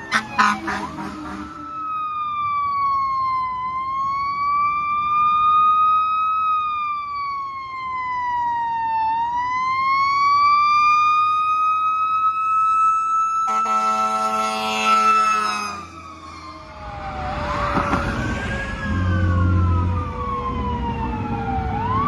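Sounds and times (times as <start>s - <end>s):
fire truck siren wailing: 0.0s - 22.0s.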